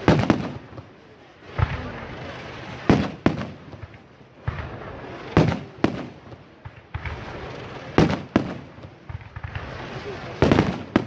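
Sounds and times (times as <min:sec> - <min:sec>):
crackling of smaller fireworks: 0:00.0 - 0:11.0.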